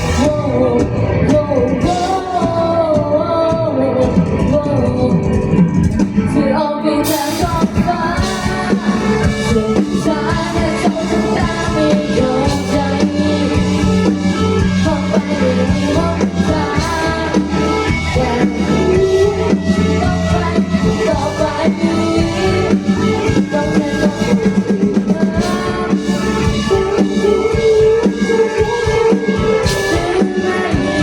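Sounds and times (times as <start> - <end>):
lead singer singing: 0.0 - 31.0
live band playing: 0.0 - 31.0.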